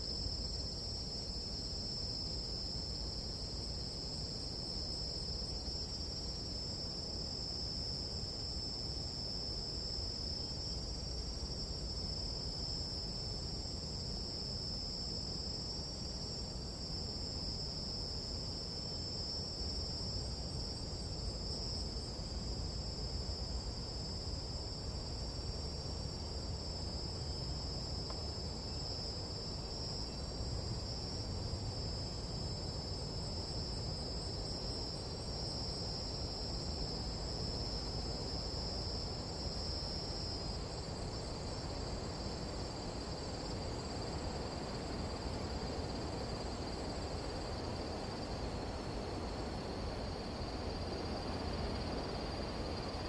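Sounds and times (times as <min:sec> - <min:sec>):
shrill night insects chorus: 0:00.0 - 0:53.0.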